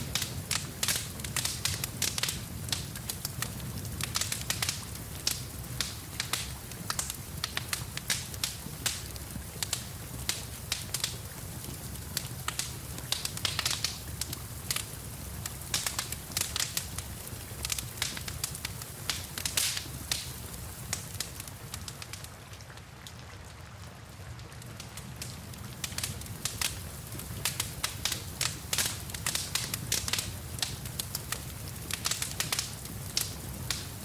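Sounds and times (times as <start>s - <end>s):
soft rain hiss: 0.0s - 34.0s
wood fire crackling and popping: 0.0s - 34.0s.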